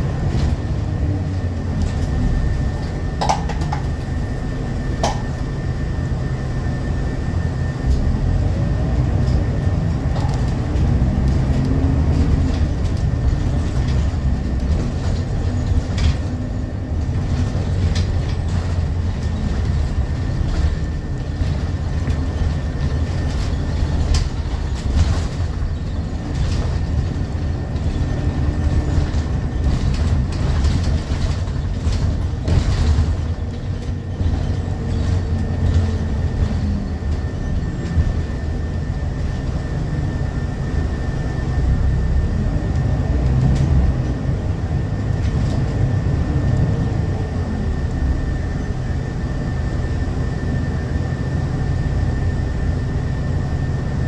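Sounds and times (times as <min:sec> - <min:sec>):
bus body rattles: 0:00.0 - 0:54.0
bus engine rumble: 0:00.0 - 0:54.0.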